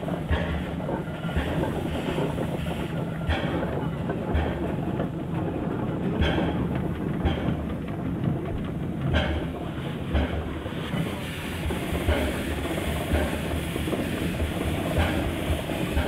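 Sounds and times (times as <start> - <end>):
steam train rumbling: 0.0 - 16.0
wheels knocking on rail joints: 0.0 - 16.0.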